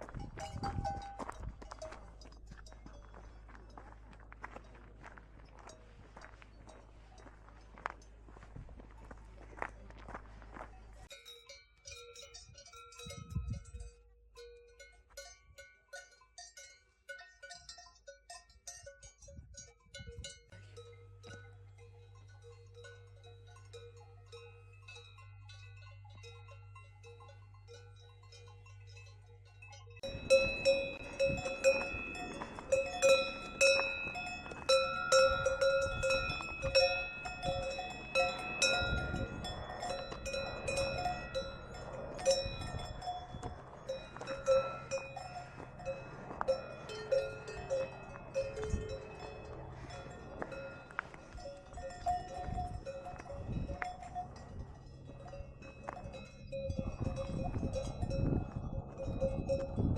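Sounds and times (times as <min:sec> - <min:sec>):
livestock bells clanking: 0:00.0 - 0:59.9.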